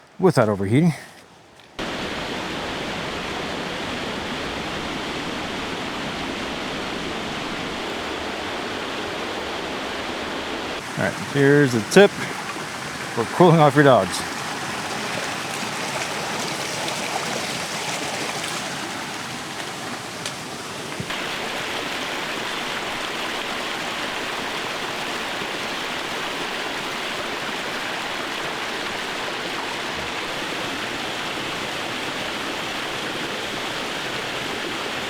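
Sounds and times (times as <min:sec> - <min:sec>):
flowing mountain stream: 0:00.0 - 0:35.0.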